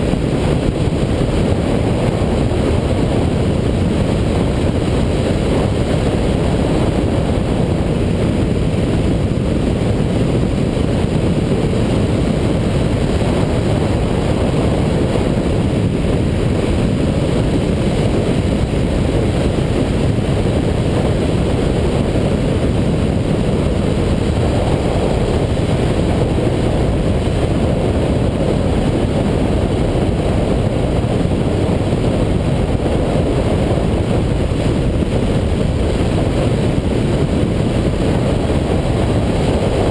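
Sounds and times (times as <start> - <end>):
motorcycle engine and road noise: 0.0 - 39.9
wind rushing on microphone: 0.0 - 39.9.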